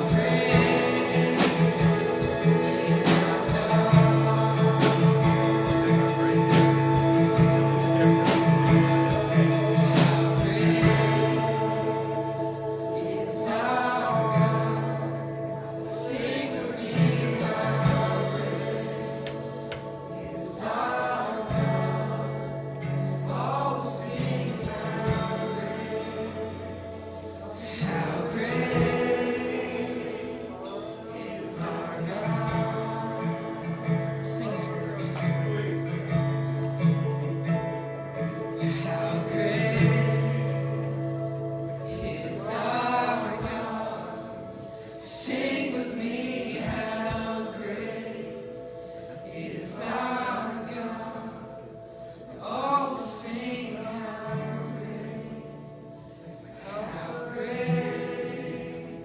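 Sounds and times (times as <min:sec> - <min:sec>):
instrumental accompaniment with bass: 0:00.0 - 0:52.3
congregation singing a hymn: 0:00.0 - 0:59.0.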